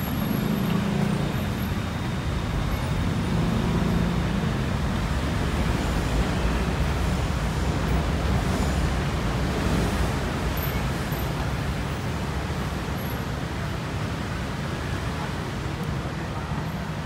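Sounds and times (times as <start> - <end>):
city road traffic rumble: 0.0 - 17.0.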